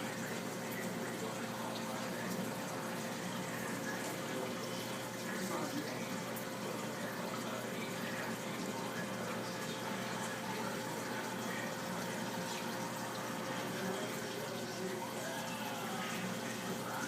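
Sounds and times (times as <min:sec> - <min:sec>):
aquarium filter water trickling: 0:00.0 - 0:17.0
faint constant hum: 0:00.0 - 0:17.0.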